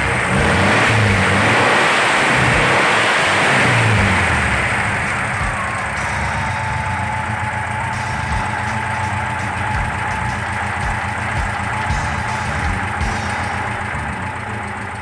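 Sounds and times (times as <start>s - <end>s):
engine idling: 0.0s - 15.0s
thin whine: 0.0s - 15.0s.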